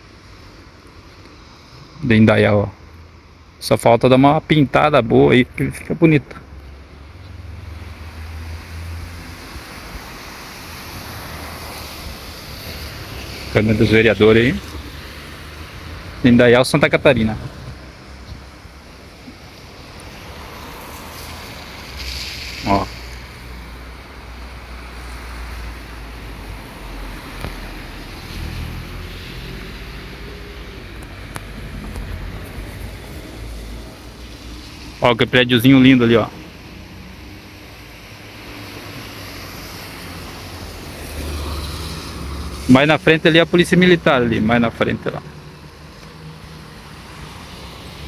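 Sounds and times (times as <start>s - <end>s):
outdoor hiss: 0.0s - 48.0s
traffic going by: 0.0s - 48.0s.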